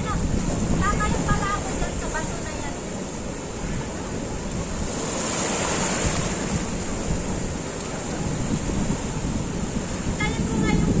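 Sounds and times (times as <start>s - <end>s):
surf breaking on beach: 0.0s - 11.0s
wind rumble on microphone: 0.0s - 11.0s.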